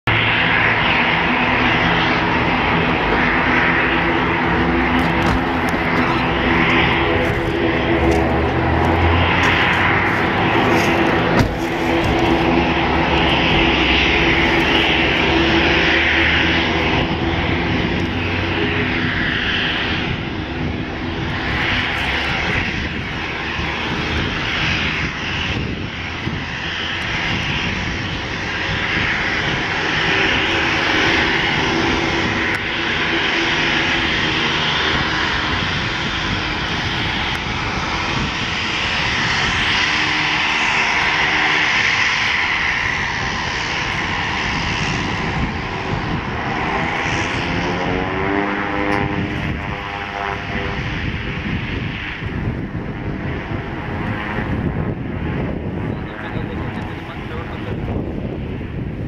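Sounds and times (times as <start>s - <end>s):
propeller drone: 0.0s - 59.0s
turboprop engine whine: 0.0s - 59.0s.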